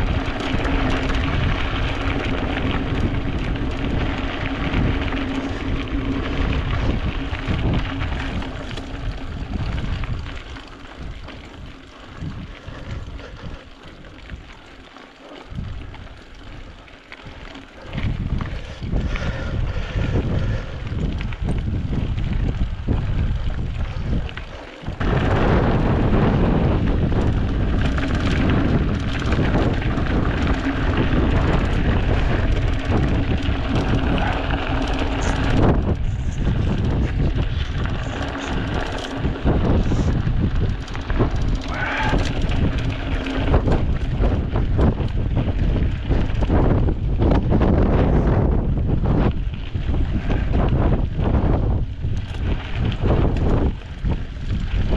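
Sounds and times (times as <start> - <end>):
wind buffeting the microphone: 0.0 - 54.9.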